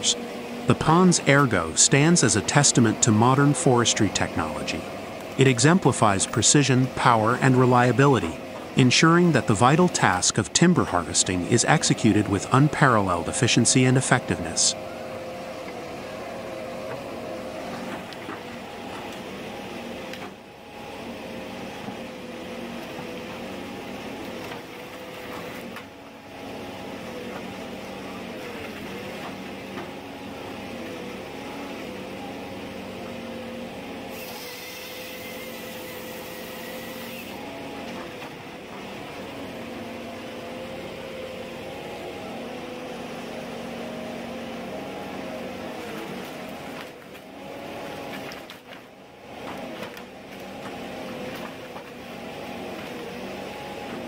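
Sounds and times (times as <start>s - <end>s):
forestry harvester engine humming: 0.0s - 54.0s.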